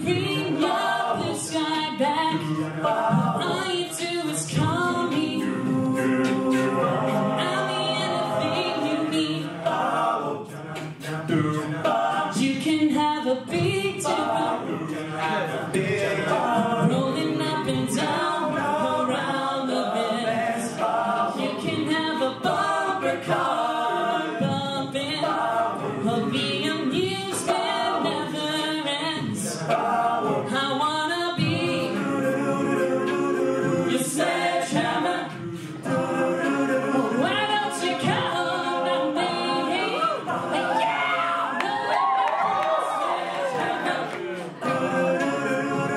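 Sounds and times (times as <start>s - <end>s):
men singing a cappella harmonies: 0.0s - 45.9s.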